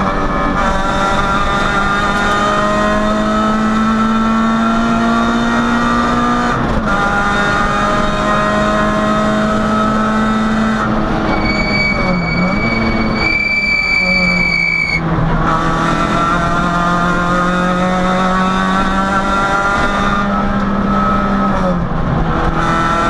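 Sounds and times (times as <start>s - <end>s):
rally car engine from inside cabin: 0.0s - 23.0s.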